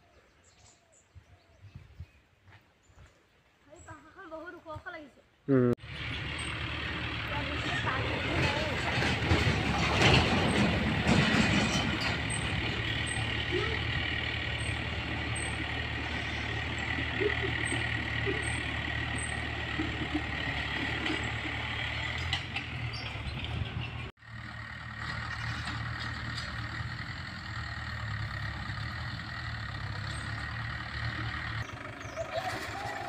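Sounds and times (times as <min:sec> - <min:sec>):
distant diesel tractor engine: 0:05.8 - 0:33.0.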